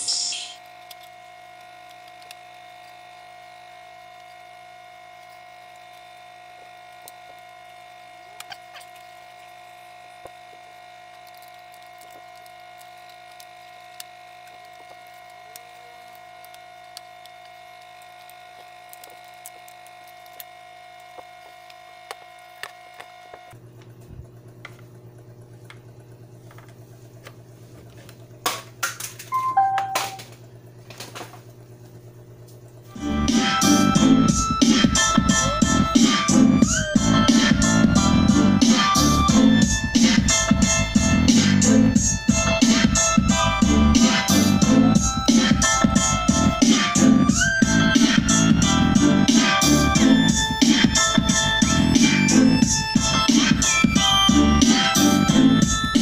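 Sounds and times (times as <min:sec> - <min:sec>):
electronic whine from speakers: 0:00.0 - 0:56.0.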